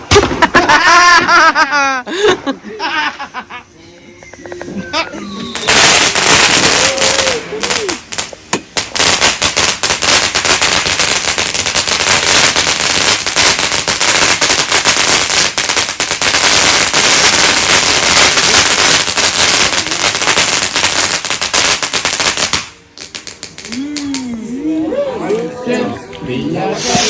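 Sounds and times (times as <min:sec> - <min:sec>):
fireworks crackling and banging: 0:00.0 - 0:24.5, 0:25.3 - 0:27.0.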